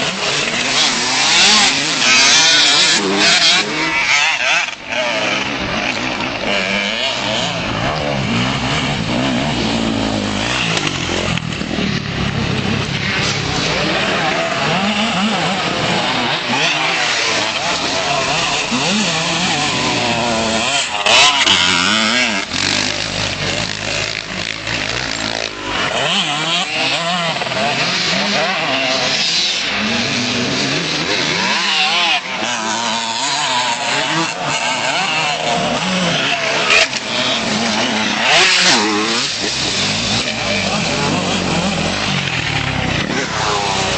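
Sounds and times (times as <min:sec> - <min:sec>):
motocross engines revving: 0:00.0 - 0:43.9
motorbike passing close: 0:00.0 - 0:43.9.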